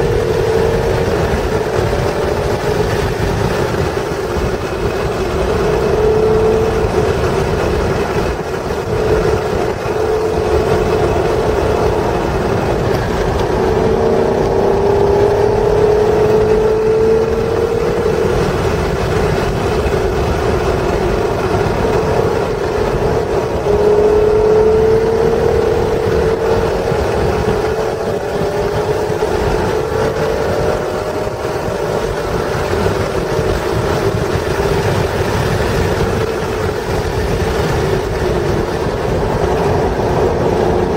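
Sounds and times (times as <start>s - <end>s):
car engine under throttle: 0.0s - 40.9s
road and tyre noise: 0.0s - 40.9s.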